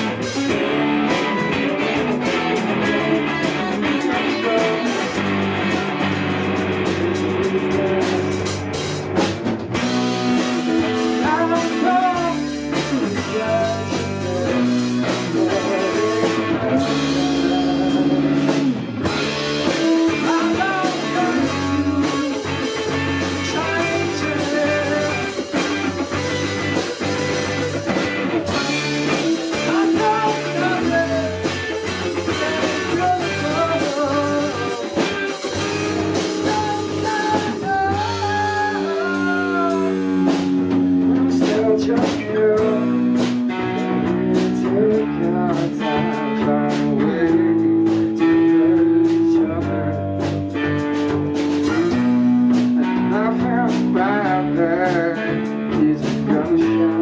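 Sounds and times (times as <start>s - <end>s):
person singing: 0.0s - 8.8s, 9.8s - 27.8s, 28.4s - 57.0s
rock band playing live: 0.0s - 57.0s.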